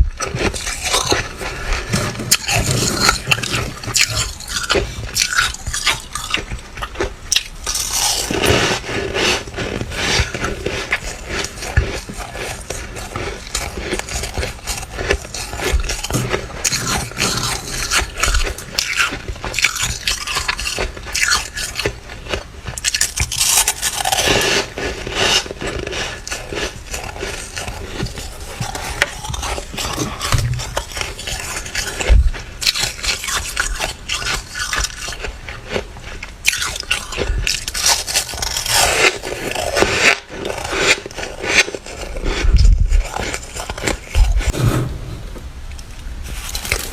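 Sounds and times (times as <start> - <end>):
crunching frost between teeth: 0.0 - 46.9.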